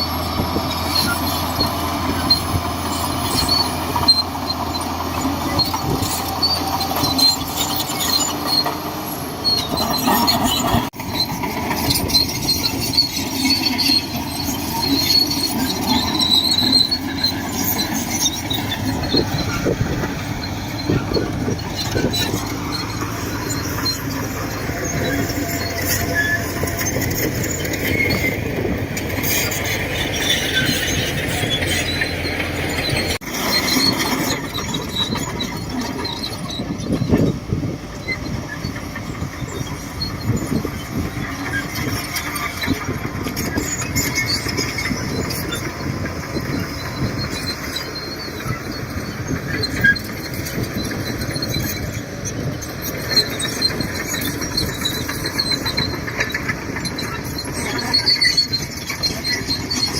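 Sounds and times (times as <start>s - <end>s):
bulldozer diesel engine under load: 0.0s - 59.9s
steel tracks clanking and squeaking: 0.0s - 59.9s.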